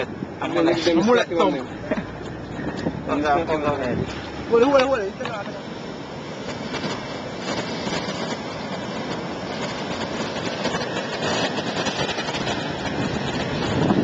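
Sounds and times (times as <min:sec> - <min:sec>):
surf crashing against seawall: 0:00.0 - 0:14.0.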